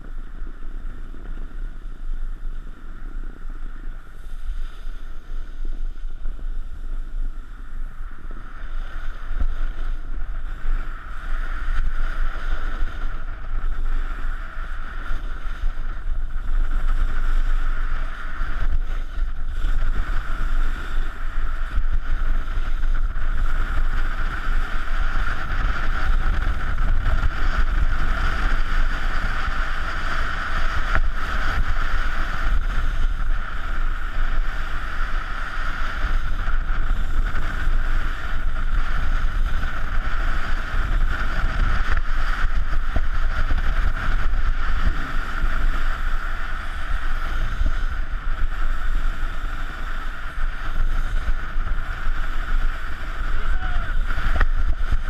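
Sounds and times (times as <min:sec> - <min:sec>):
snowboard hissing over snow: 0:00.0 - 0:55.0
wind buffeting microphone: 0:00.0 - 0:55.0.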